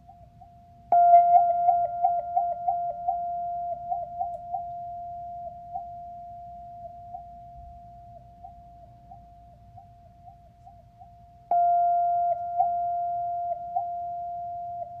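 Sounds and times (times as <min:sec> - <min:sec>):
singing bowl ringing: 0:00.9 - 0:10.4, 0:11.0 - 0:15.0.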